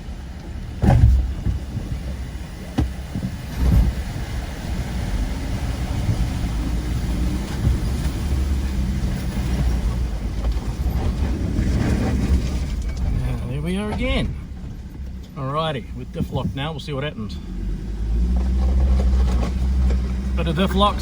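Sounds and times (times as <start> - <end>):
truck engine under load: 0.0 - 21.0.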